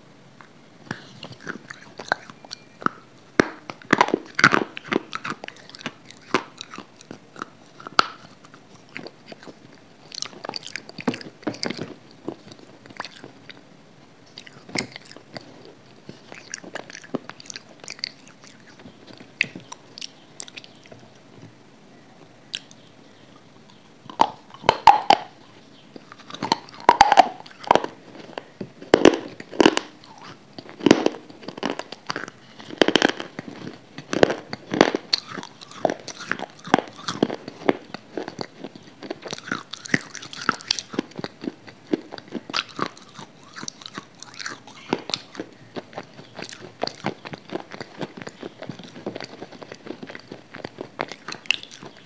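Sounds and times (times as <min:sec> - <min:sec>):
crunchy biting and chewing: 0:00.8 - 0:21.3, 0:22.5 - 0:52.0.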